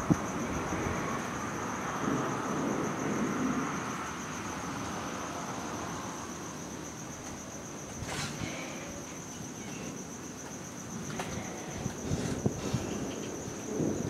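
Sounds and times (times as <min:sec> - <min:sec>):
night insects chirping: 0:00.0 - 0:14.0.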